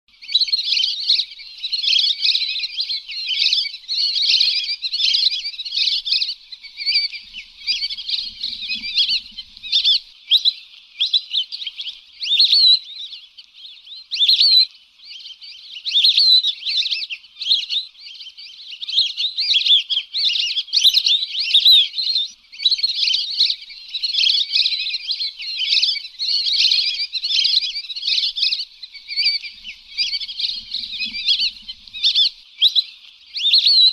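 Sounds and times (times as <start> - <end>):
ducks whistling calls: 0.1 - 33.9.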